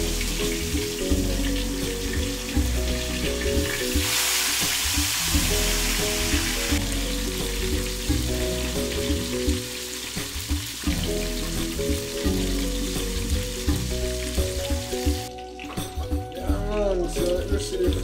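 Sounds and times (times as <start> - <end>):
background music with low notes: 0.0 - 18.0
fish frying in hot oil: 0.0 - 18.0.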